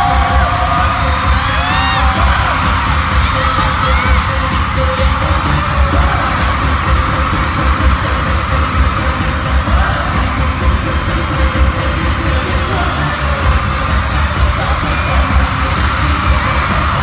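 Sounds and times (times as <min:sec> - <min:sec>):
live pop concert music: 0:00.0 - 0:17.0.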